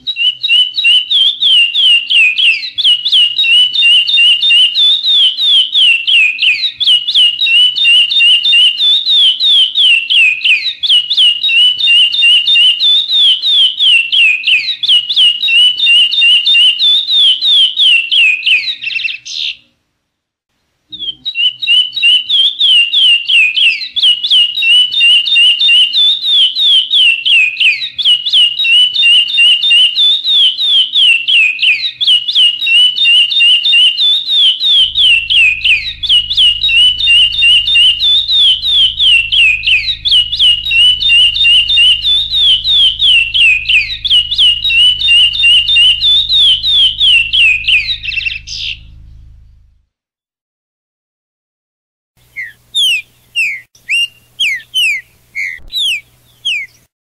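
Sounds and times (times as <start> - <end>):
songbird singing: 0.0 - 19.6, 20.9 - 49.7, 52.2 - 56.9.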